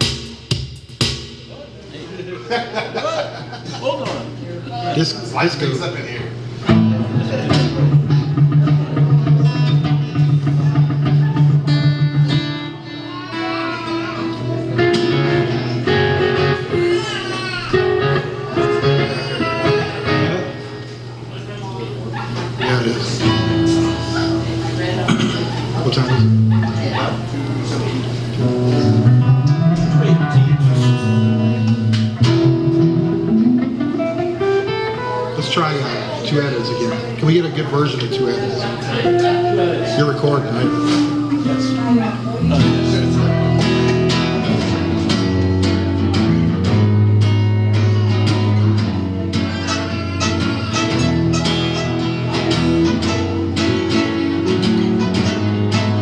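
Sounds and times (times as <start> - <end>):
guitar chord and picked notes: 4.0 - 56.0.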